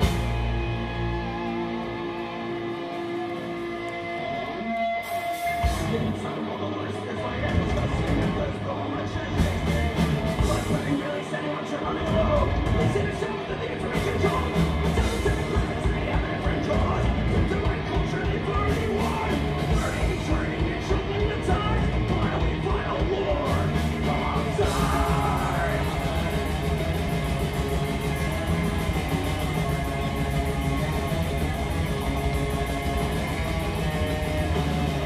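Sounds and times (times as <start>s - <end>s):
drum kit: 0.0s - 6.3s, 7.4s - 8.7s, 9.3s - 35.0s
rock band playing loud: 0.0s - 35.0s
shouted metal vocals: 4.2s - 35.0s.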